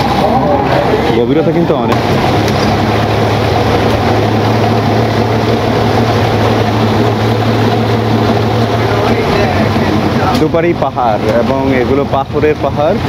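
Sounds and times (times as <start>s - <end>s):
motorboat engine running: 0.0s - 13.0s
rushing noise: 0.0s - 13.0s.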